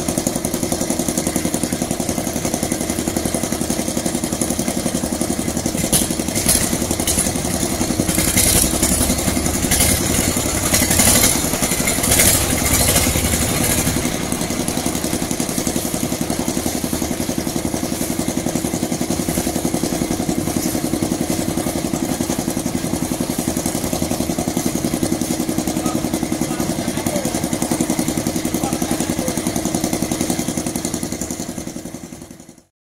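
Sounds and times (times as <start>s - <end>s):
concrete mixer engine running: 0.0s - 32.7s.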